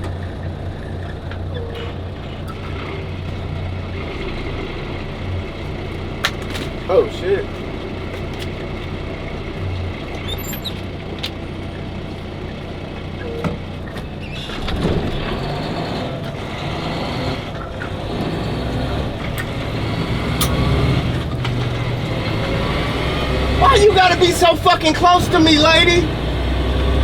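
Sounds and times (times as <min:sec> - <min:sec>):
road noise: 0:00.0 - 0:27.0
truck engine drone: 0:00.0 - 0:27.0.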